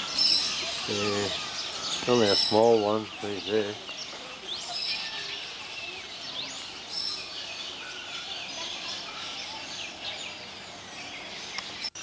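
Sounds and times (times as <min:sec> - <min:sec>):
birds chirping and whistling: 0:00.0 - 0:12.0
outdoor background hum: 0:00.0 - 0:12.0.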